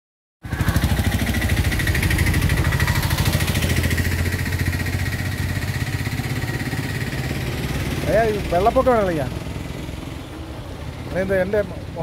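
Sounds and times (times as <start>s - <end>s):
engine idling: 0.4s - 12.0s.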